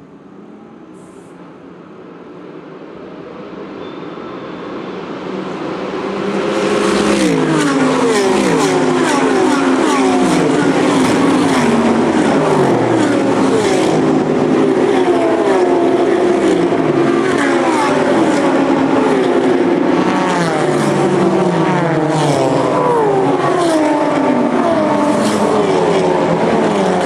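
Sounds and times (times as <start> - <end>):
race cars passing at speed: 0.1 - 27.0.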